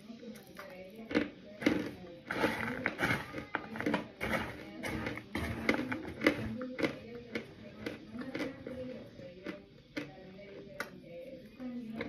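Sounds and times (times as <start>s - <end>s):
chewing cornstarch crunch: 0.4s - 10.9s.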